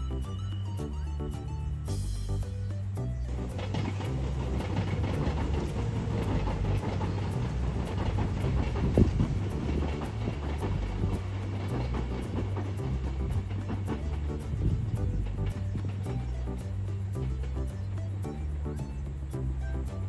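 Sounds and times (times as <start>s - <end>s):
electric train running past: 0.0s - 20.0s
wheels clattering: 0.0s - 20.0s.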